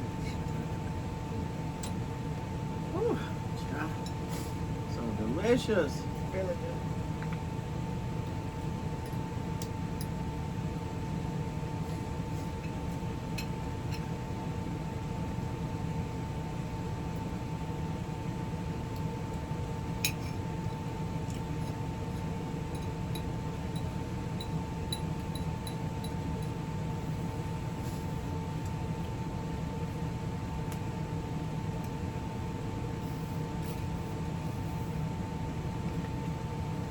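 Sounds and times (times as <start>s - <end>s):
mechanical hum: 0.0s - 36.9s.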